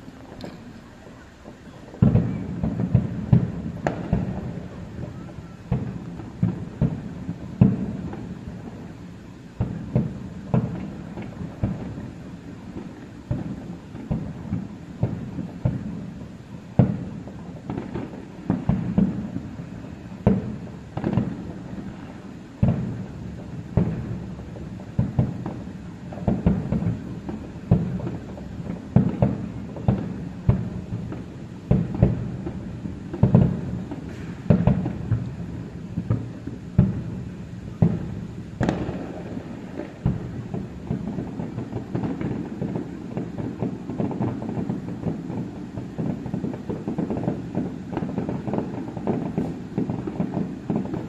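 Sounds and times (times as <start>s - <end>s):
fireworks booming: 0.0s - 51.0s.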